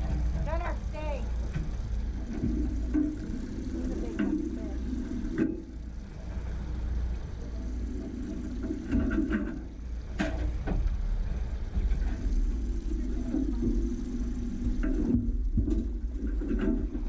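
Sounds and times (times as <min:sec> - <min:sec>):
outboard motor rumbling: 0:00.0 - 0:17.0.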